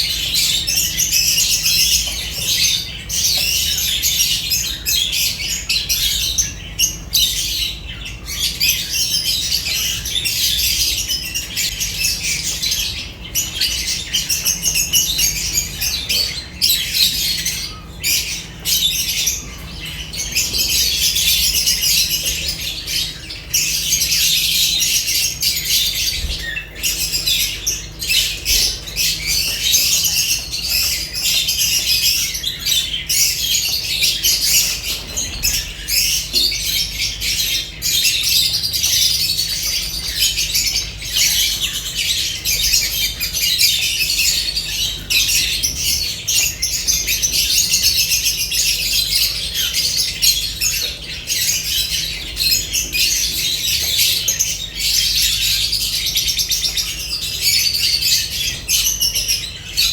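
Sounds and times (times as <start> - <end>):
lovebirds chattering: 0.0 - 59.9.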